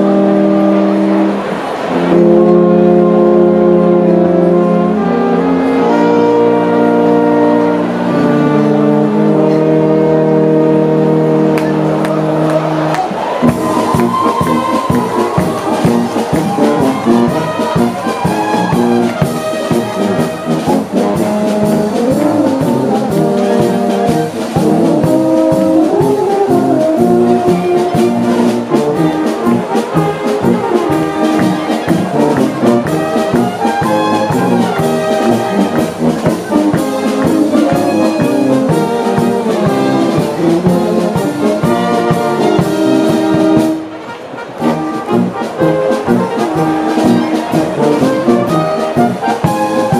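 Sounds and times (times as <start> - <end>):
brass band playing: 0.0 - 49.9.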